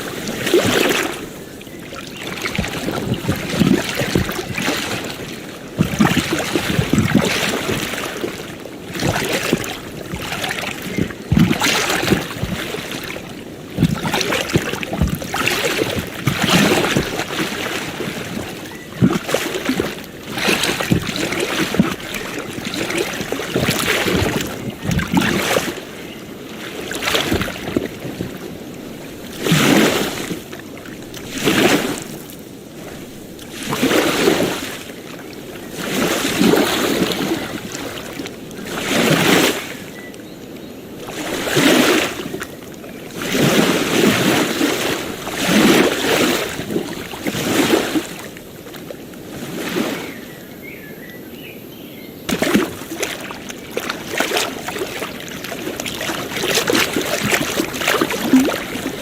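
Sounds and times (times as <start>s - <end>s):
small waves washing onto beach: 0.0s - 50.3s, 52.2s - 59.0s.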